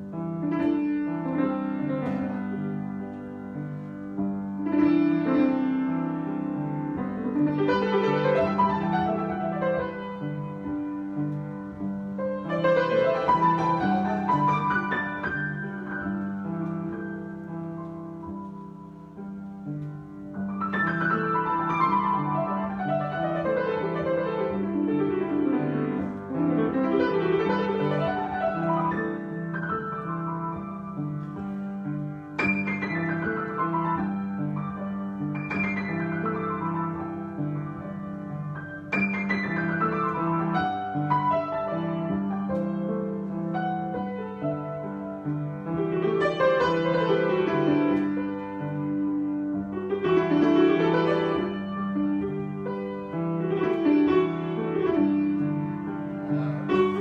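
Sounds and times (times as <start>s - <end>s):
loud piano chord: 0.0s - 57.0s
solo piano: 0.0s - 57.0s.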